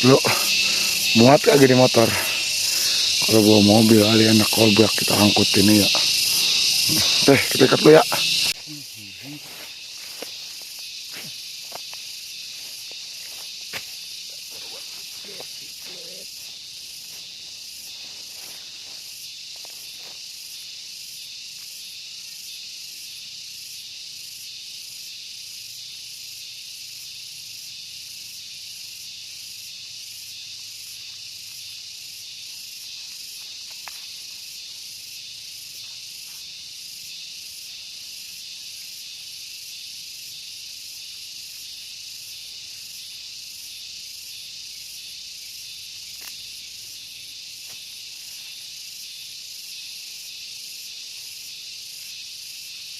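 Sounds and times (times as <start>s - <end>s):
pulsing insect chorus: 0.0s - 52.9s.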